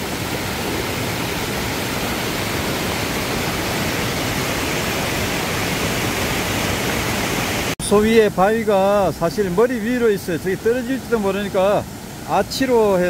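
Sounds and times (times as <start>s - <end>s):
water running over stones: 0.0s - 13.0s
waterfall pouring over rocks: 0.0s - 13.0s.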